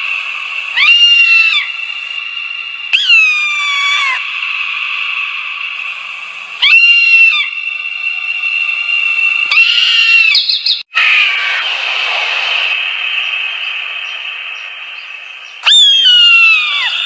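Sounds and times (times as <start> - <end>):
eagle screaming calls: 0.0 - 17.0
high-pitched background hiss: 0.0 - 17.0.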